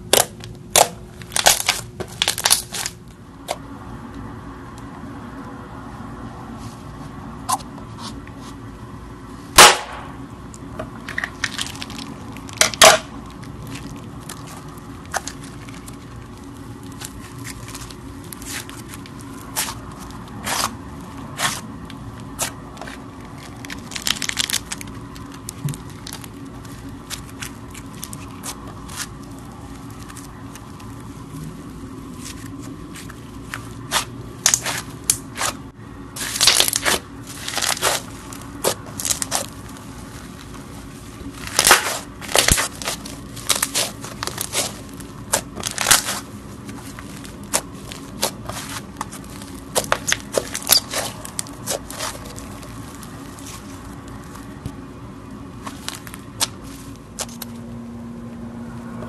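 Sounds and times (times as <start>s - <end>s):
crunchy slime crackling and popping: 0.0s - 3.6s, 9.5s - 54.8s, 55.6s - 57.5s.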